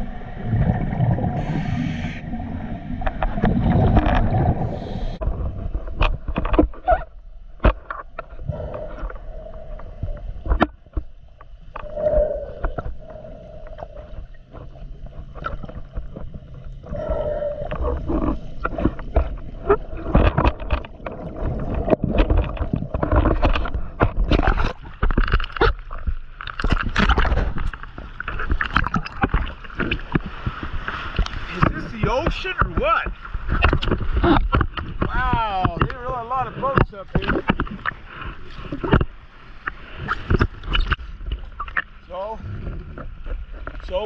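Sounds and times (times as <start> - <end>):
bubbles gurgling and clicking: 0.0 - 42.0.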